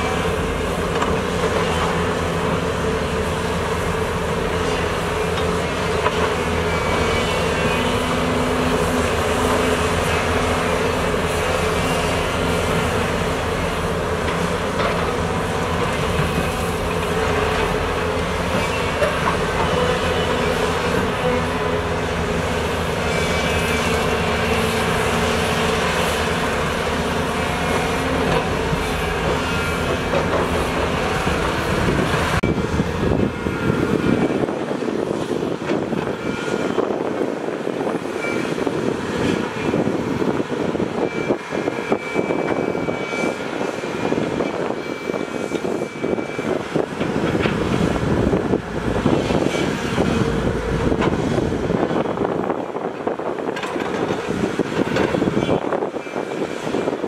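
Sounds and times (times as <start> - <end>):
diesel excavator engine: 0.0 - 57.0.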